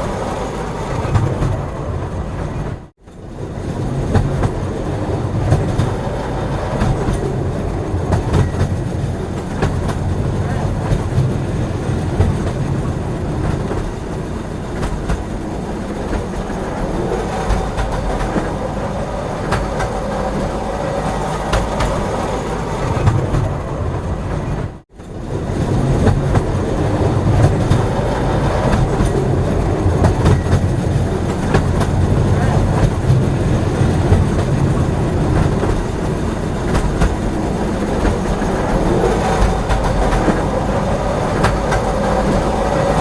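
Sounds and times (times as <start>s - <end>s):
train rumble inside carriage: 0.0s - 43.0s
wheels clicking over rails: 0.0s - 43.0s.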